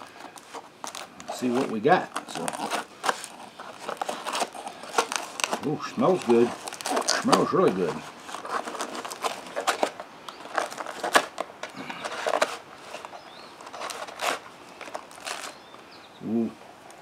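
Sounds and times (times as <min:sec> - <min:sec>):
aluminium foil crinkling and tearing: 0:00.0 - 0:15.7.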